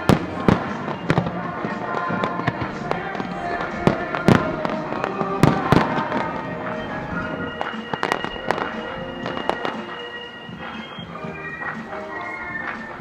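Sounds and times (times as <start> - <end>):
fireworks bursting with loud bangs: 0.0 - 13.0
music playing: 0.0 - 13.0.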